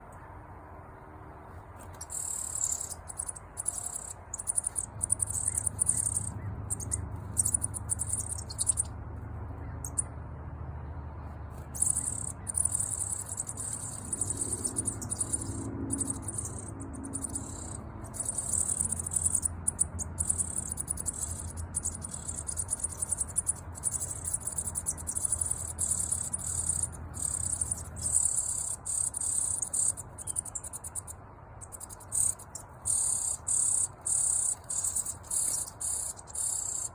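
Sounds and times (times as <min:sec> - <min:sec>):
nestlings begging chirring calls: 0:01.8 - 0:09.0, 0:09.6 - 0:10.1, 0:11.5 - 0:36.9.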